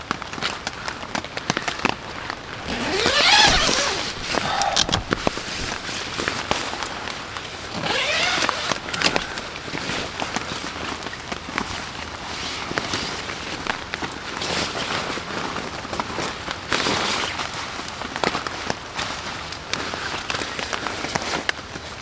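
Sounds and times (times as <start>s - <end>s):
rain poncho rustling: 0.0s - 22.0s
raindrops pattering on tent: 0.0s - 22.0s.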